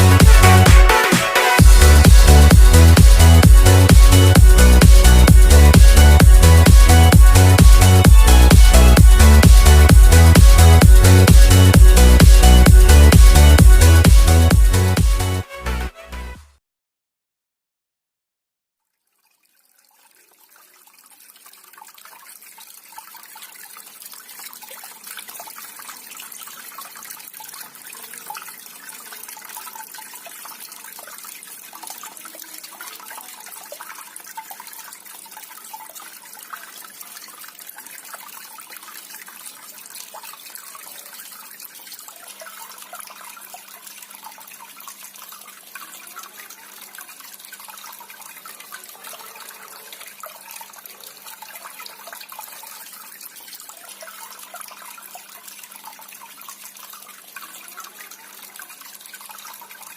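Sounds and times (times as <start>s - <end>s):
fountain water trickling: 0.0s - 15.4s, 18.8s - 59.9s.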